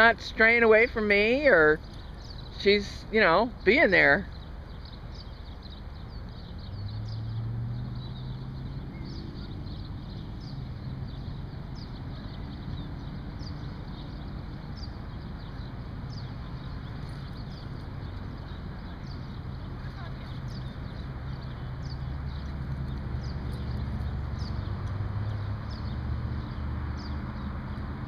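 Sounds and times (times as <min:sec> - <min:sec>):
distant traffic hum: 0:00.0 - 0:28.0.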